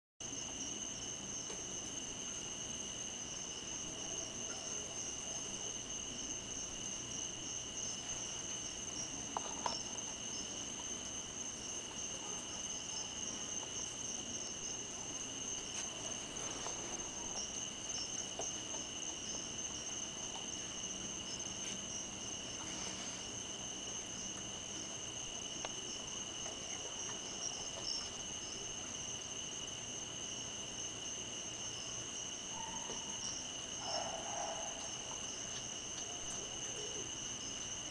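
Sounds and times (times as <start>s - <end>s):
crickets trilling: 0.2s - 37.9s.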